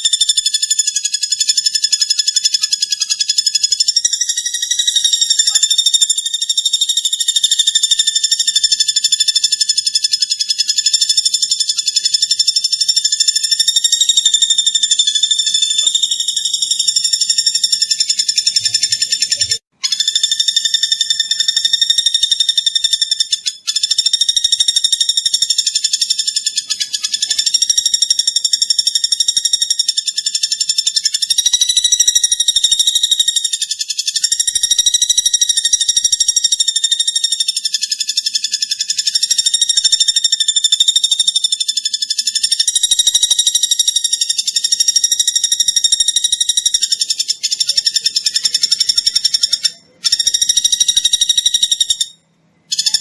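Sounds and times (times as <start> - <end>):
woodpecker fast high trill: 0.0 - 53.0.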